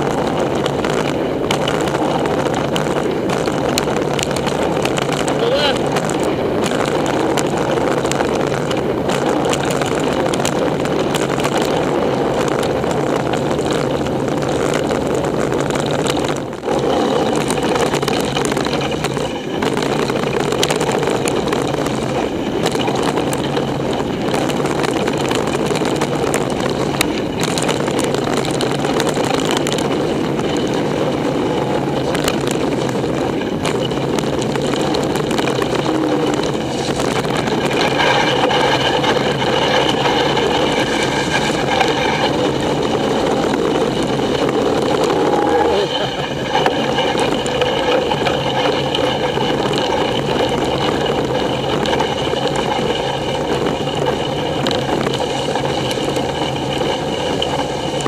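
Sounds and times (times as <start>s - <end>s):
bike clicks and rattles: 0.0s - 58.0s
rushing tyres and air: 0.0s - 58.0s.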